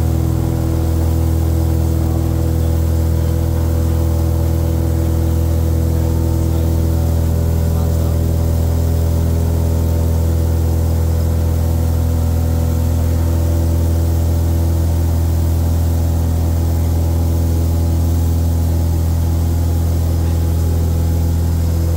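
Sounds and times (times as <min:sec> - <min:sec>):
propeller plane engine drone: 0:00.0 - 0:21.9.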